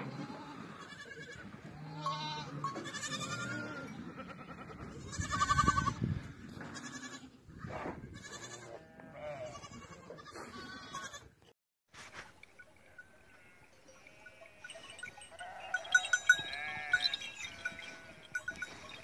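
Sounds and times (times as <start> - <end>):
sheep and goats bleating: 0.0 - 11.5, 12.6 - 19.0.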